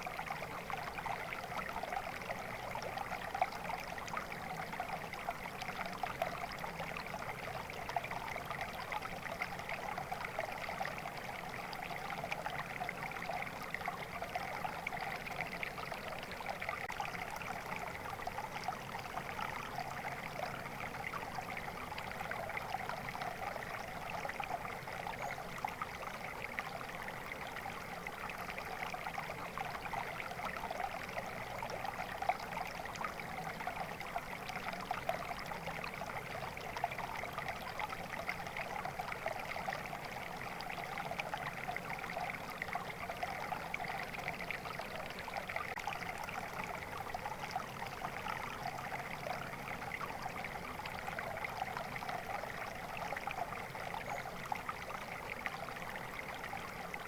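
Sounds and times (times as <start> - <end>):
stream babbling and trickling: 0.0 - 57.0.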